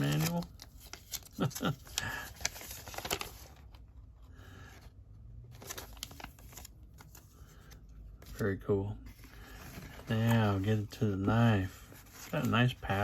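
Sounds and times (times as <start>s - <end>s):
paper packaging rustling: 0.0s - 13.0s.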